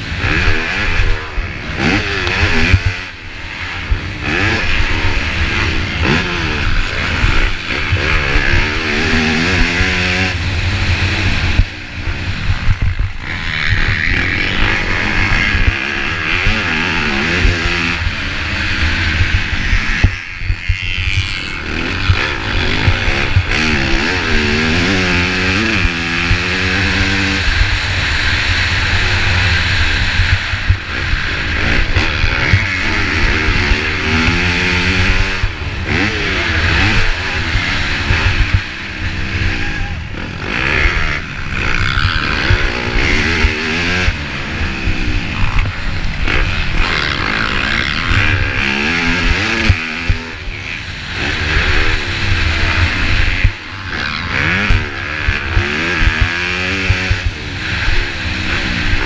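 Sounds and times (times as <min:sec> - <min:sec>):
dirt bike engine revving: 0:00.0 - 0:59.0
wind on microphone: 0:00.0 - 0:59.0.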